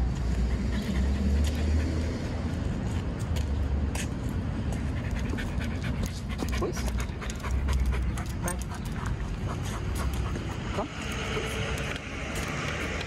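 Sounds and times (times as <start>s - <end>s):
dog panting: 0.1s - 3.0s, 4.6s - 13.0s.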